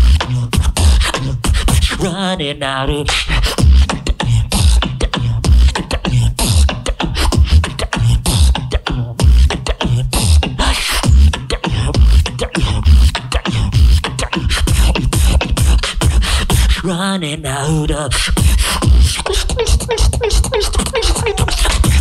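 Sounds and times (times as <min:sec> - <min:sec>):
beatboxing into a microphone: 0:00.0 - 0:22.0.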